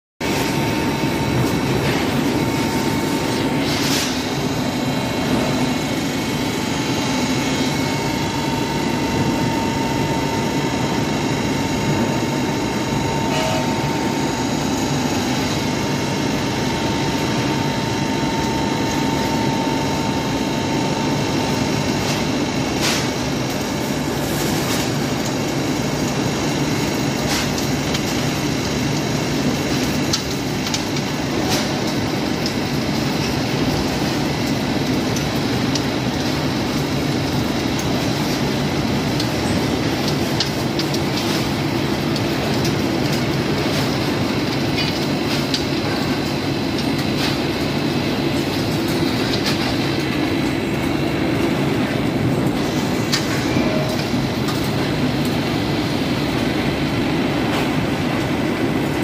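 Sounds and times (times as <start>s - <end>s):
industrial rumble and hum: 0.2s - 59.0s.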